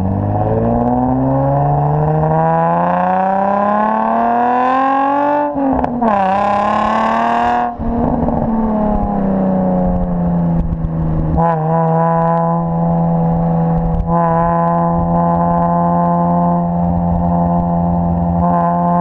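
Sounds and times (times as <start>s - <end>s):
car engine while driving: 0.0s - 19.0s.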